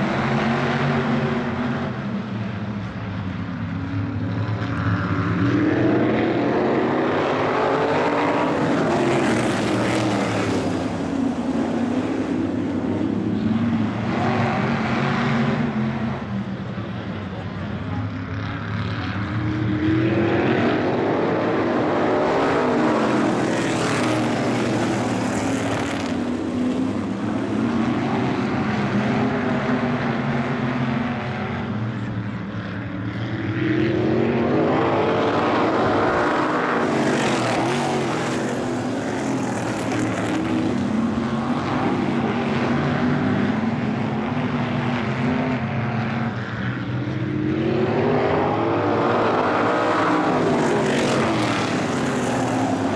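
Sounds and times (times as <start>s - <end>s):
race car engines passing: 0.0s - 52.9s.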